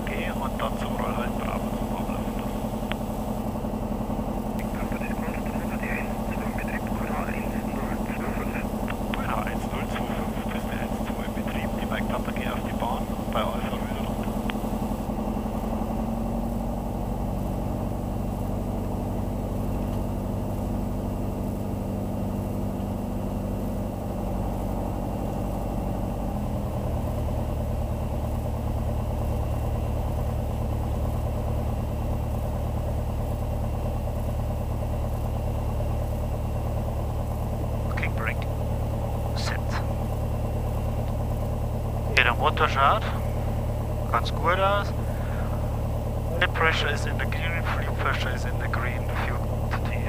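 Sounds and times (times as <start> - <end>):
propeller plane engine running: 0.0 - 50.0.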